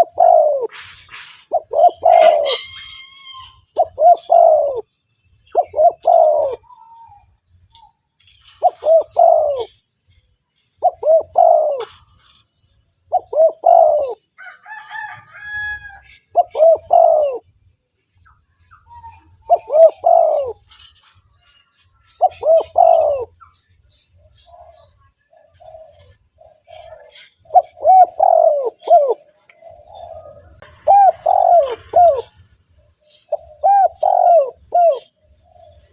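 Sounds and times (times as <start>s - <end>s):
dove cooing: 0.0s - 4.9s, 5.5s - 9.8s, 10.8s - 12.4s, 13.1s - 17.6s, 18.6s - 35.9s.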